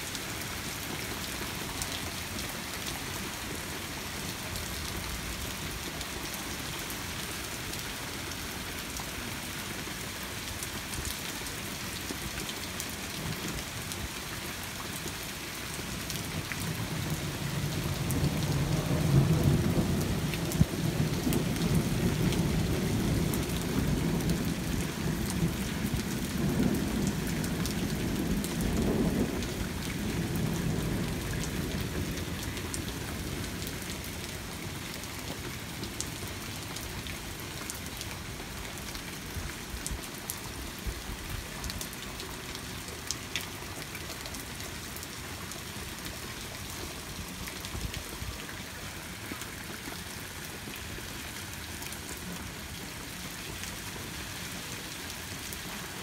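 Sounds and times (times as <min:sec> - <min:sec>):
raindrops ticking on surfaces: 0:00.0 - 0:56.0
steady rain falling: 0:00.0 - 0:56.0.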